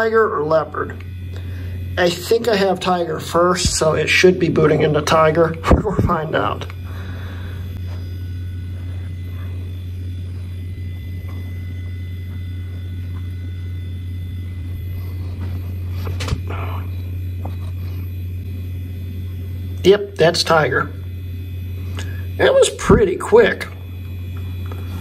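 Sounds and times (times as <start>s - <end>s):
computer fans humming: 0.0s - 25.0s.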